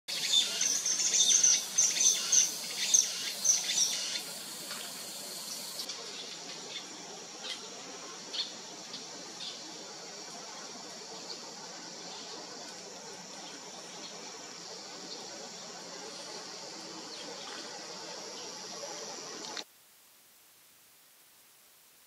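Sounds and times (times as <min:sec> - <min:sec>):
background hiss: 0:00.1 - 0:22.0.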